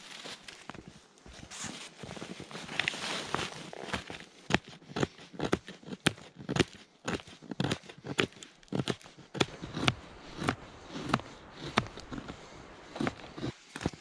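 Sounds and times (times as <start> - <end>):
knife scraping wood: 1.5 - 14.0.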